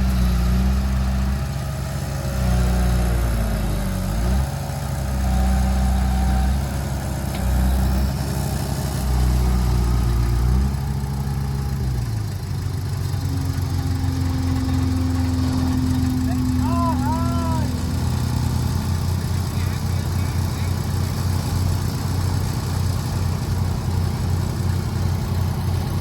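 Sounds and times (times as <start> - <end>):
heavy diesel engine under load: 0.0 - 26.0.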